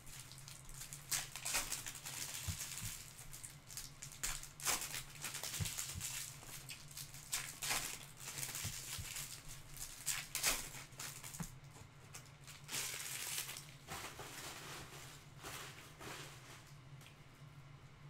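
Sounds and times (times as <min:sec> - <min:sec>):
wrappers crinkling and tearing: 0:00.0 - 0:16.8
faint low hum: 0:00.0 - 0:18.0.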